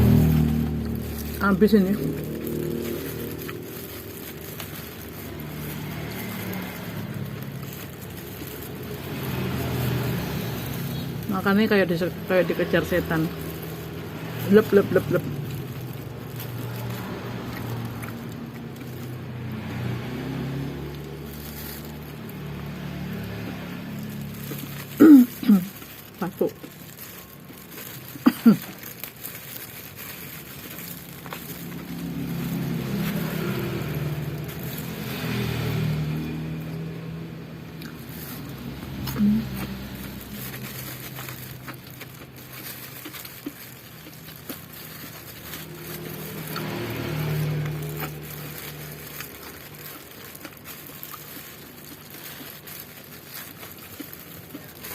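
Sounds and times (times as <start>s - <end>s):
clicks and crinkles of eating: 0.0s - 54.9s
traffic hum: 0.0s - 54.9s
vehicle engine passing: 0.0s - 54.9s.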